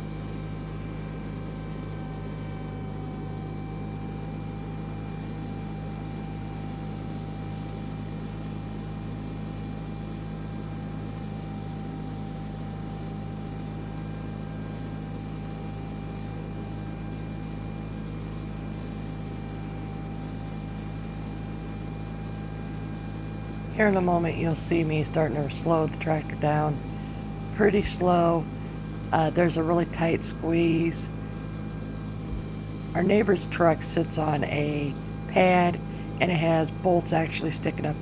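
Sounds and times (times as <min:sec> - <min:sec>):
garden tractor engine humming: 0:00.0 - 0:38.0.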